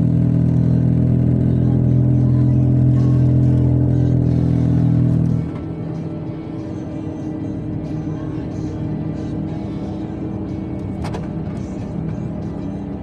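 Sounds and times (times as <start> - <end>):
car driving low drone: 0.0 - 13.0.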